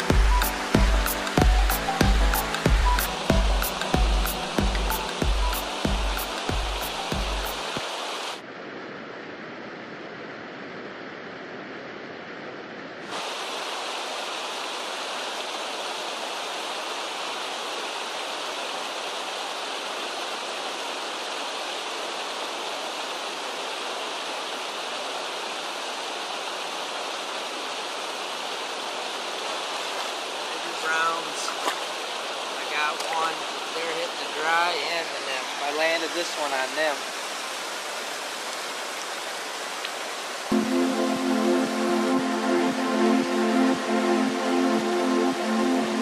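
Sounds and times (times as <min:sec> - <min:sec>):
waterfall rushing into pool: 0:00.0 - 0:12.4, 0:13.0 - 0:46.0.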